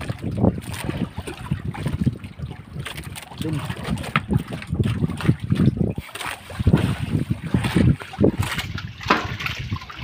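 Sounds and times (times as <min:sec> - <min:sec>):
water splashing around boat: 0:00.0 - 0:10.0
wind buffeting microphone: 0:00.0 - 0:10.0.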